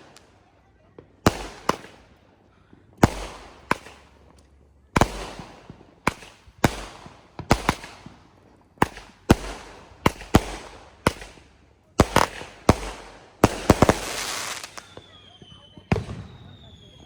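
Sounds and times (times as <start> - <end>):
fireworks bangs with rumble: 2.7 - 4.3, 5.0 - 17.0.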